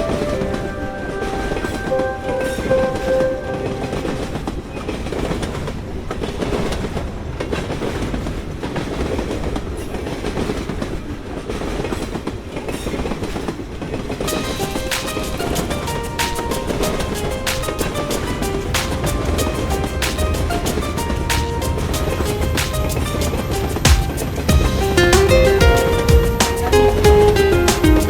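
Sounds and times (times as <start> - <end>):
train rumbling on rails: 0.0 - 28.0
wheels clattering over track: 0.0 - 28.0.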